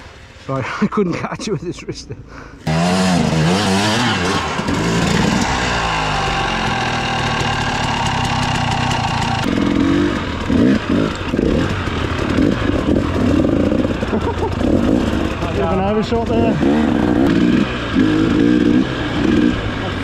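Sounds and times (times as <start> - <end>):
dirt bike engine revving: 2.6 - 20.0.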